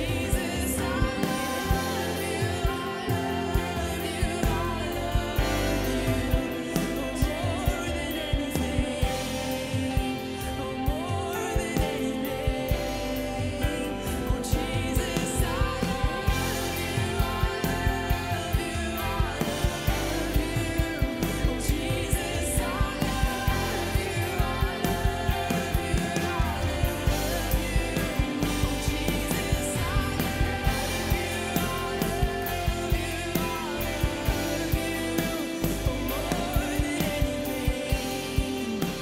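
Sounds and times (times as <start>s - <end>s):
live band playing: 0.0s - 39.0s
steady drum beat: 0.0s - 39.0s
woman singing: 0.0s - 39.0s.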